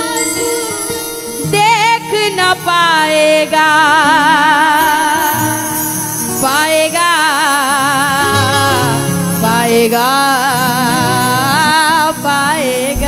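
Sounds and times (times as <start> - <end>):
instrumental accompaniment: 0.0 - 13.0
solo devotional singing: 0.0 - 13.0.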